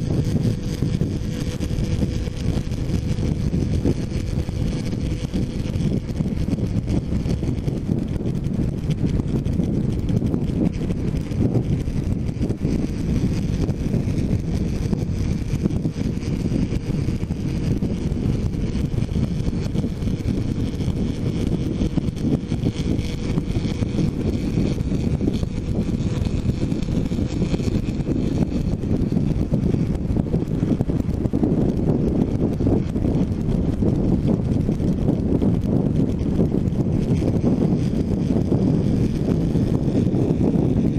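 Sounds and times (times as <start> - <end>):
faint motorcycle engine: 0.0 - 40.9
heavy wind noise: 0.0 - 40.9.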